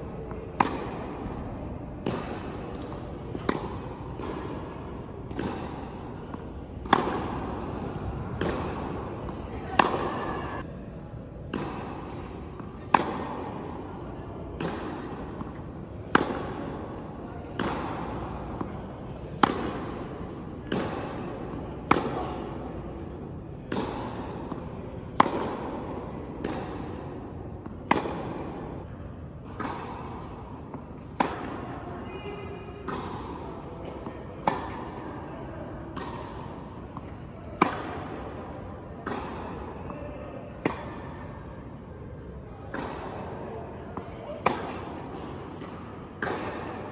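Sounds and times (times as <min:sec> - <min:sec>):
racket hitting tennis ball echoing: 0:00.5 - 0:10.6, 0:11.5 - 0:31.9, 0:32.6 - 0:46.9.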